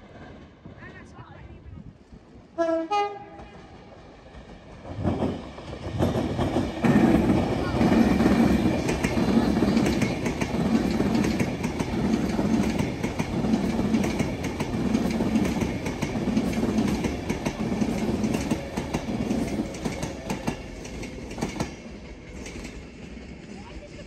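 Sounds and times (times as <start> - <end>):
train running past: 0.0 - 24.0
wheels clicking over rail joints: 3.4 - 24.0.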